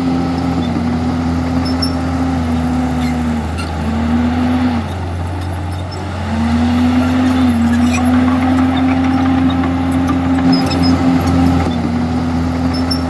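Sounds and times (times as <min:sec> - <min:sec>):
bulldozer diesel engine under load: 0:00.0 - 0:13.0.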